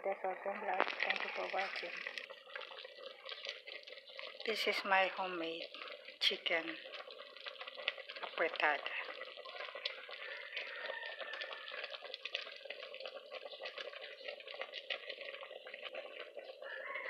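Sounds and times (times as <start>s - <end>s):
stew simmering and bubbling: 0.0s - 17.0s.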